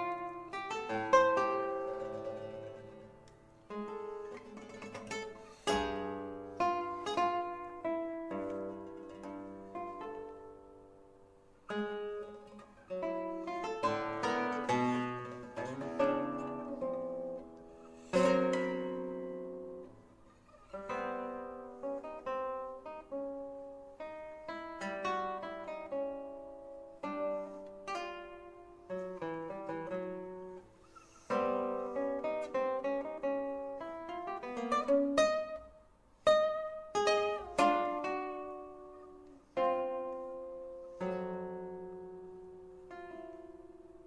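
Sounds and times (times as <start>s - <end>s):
solo classical guitar: 0.0s - 44.0s.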